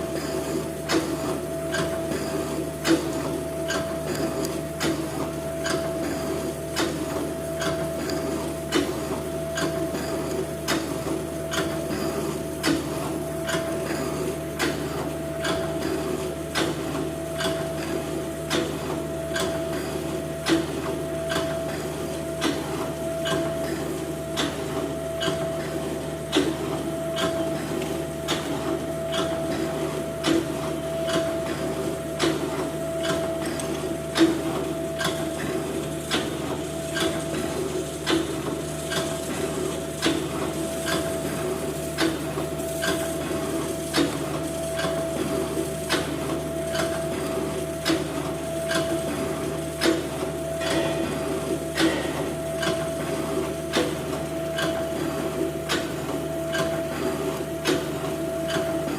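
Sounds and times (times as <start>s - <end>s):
metal shaping machine motor hum: 0.0s - 58.9s.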